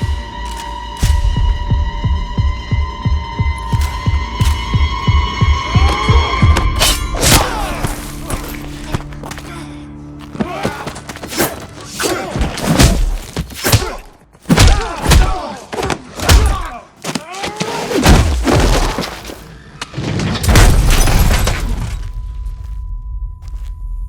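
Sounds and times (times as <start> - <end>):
film music score: 0.0 - 24.0.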